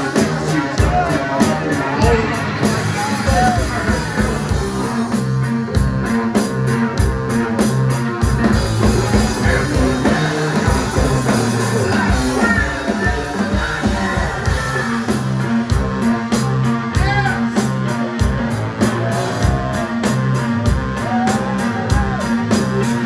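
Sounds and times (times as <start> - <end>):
bass guitar: 0.0 - 23.0
drum kit beat: 0.0 - 23.0
electric guitar: 0.0 - 23.0.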